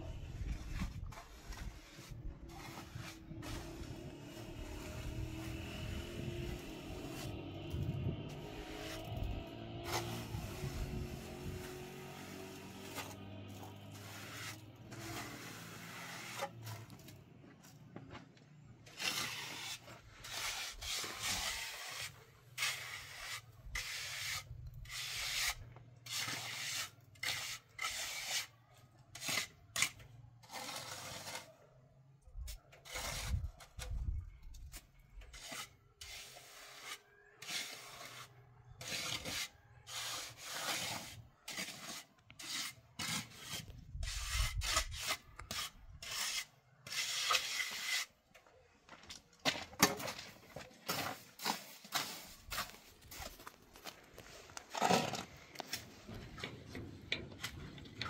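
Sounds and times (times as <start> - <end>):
rough scraping strokes: 0.0 - 17.2, 18.6 - 31.7, 32.8 - 48.2, 49.8 - 58.0.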